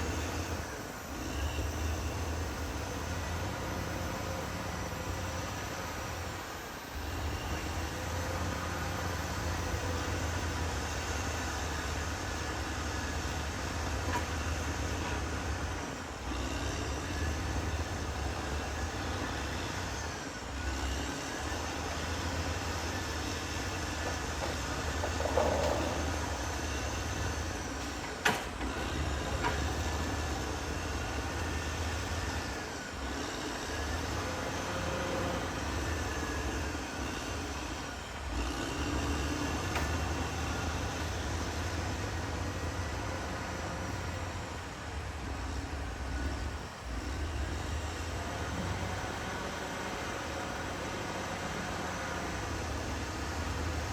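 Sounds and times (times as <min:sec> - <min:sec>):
bulldozer diesel engine rumbling: 0:00.0 - 0:53.9.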